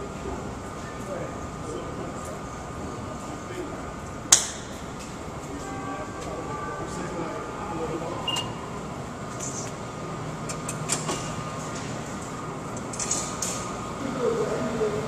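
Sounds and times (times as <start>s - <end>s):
rail station background noise: 0.0s - 15.0s.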